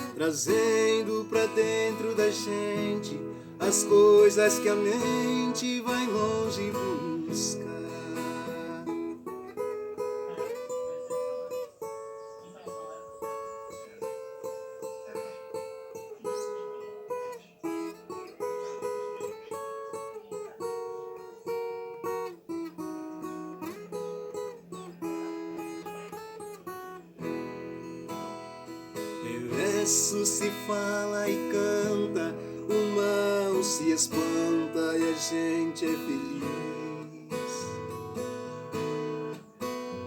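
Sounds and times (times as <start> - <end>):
plucked guitar melody: 0.0 - 40.0
strummed string accompaniment: 0.0 - 40.0.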